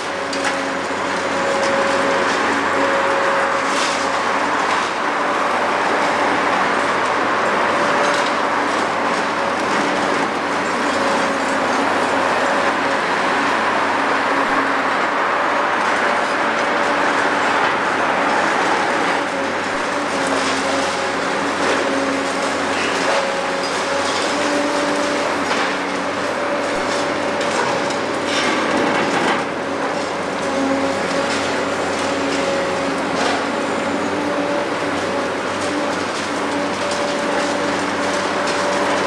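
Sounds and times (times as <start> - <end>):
excavator engine and hydraulics whining: 0.0 - 39.0.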